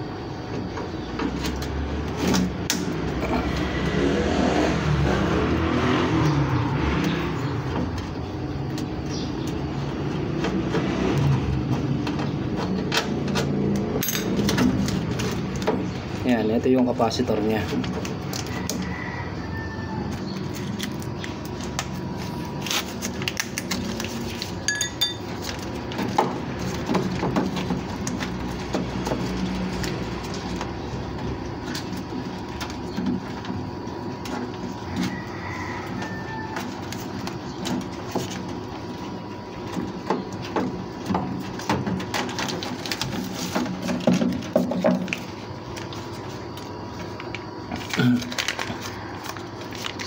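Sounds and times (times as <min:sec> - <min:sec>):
rustling of wires: 0:07.1 - 0:18.9, 0:20.0 - 0:50.0.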